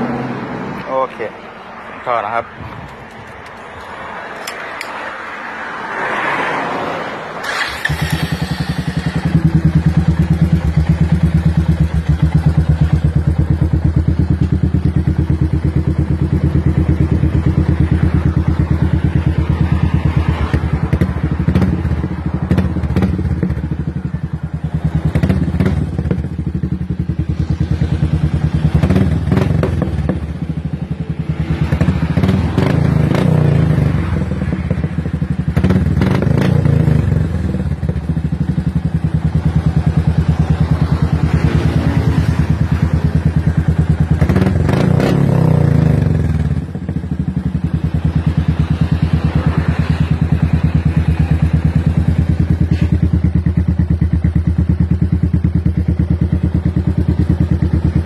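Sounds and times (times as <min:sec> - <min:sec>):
motorcycle engine running: 0:07.4 - 0:58.0.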